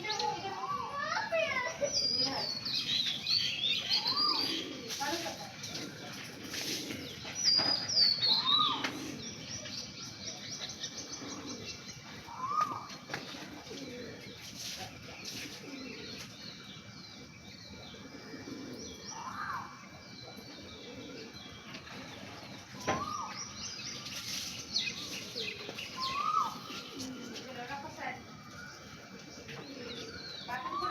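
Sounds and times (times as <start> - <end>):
birds chirping and twittering: 0.0 - 30.9.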